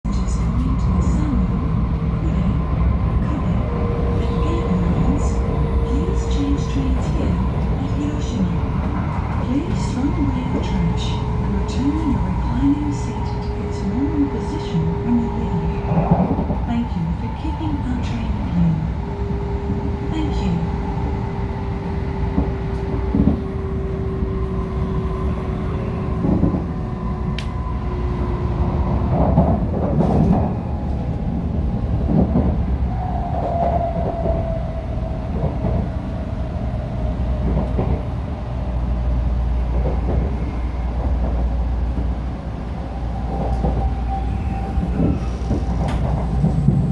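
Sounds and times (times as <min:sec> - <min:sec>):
train low rumble: 0:00.0 - 0:46.9.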